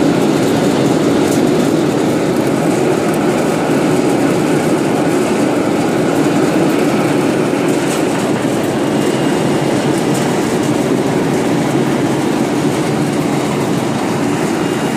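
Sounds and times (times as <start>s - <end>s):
machinery rattling: 0.0s - 14.9s.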